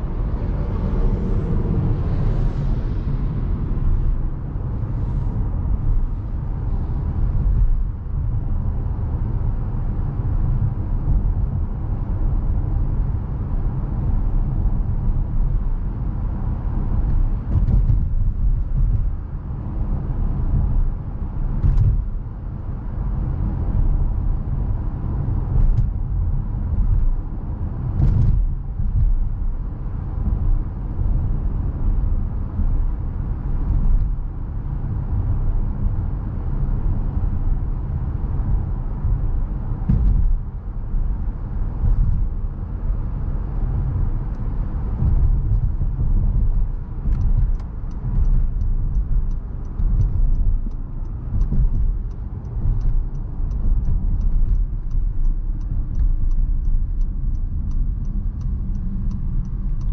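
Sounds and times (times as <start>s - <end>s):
car road and tyre rumble: 0.0s - 59.9s.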